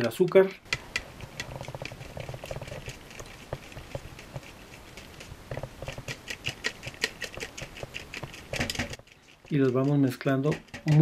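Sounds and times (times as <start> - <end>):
utensil stirring batter in bowl: 0.0 - 11.0.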